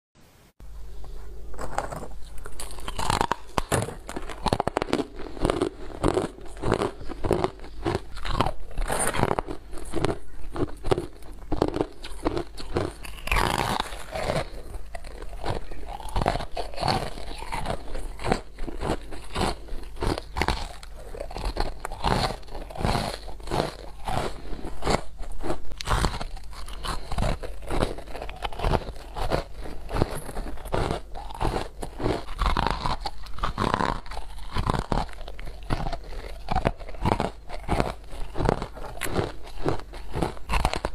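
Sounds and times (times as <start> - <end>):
chewing crunchy frost: 1.0 - 40.9.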